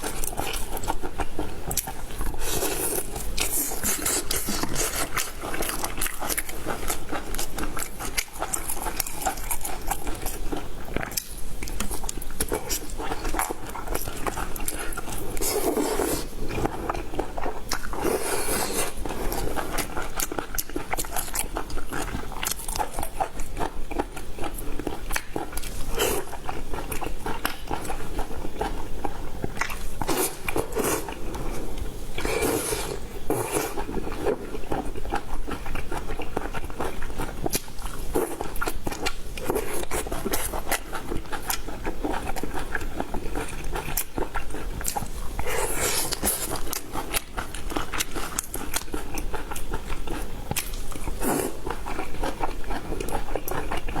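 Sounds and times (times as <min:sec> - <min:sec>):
crunchy eating: 0:00.0 - 0:54.0.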